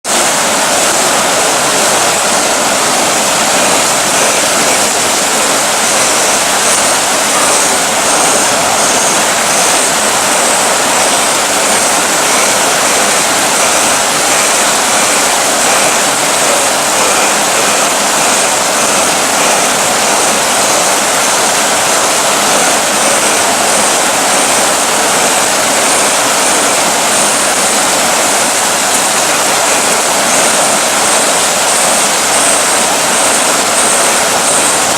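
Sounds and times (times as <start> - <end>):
heavy rain hiss: 0.1 - 34.9.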